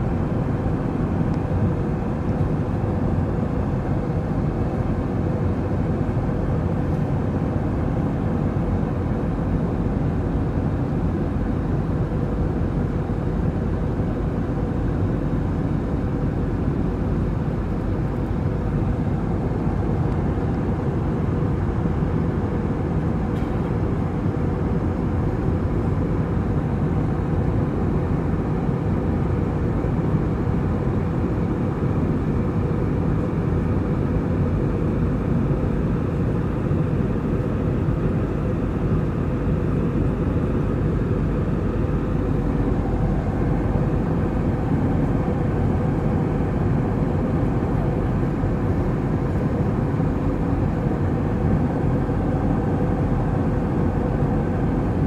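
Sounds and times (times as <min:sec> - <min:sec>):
airflow over fuselage: 0:00.0 - 0:55.0
faint steady hum: 0:00.0 - 0:55.0
jet engines roaring: 0:00.0 - 0:55.0.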